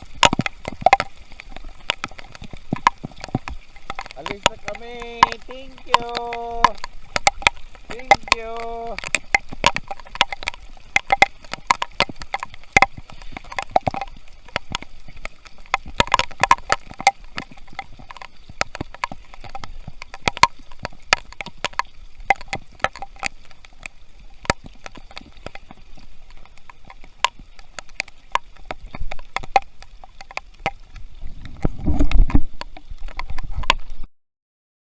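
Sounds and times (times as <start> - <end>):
rain patter: 0.0 - 34.1.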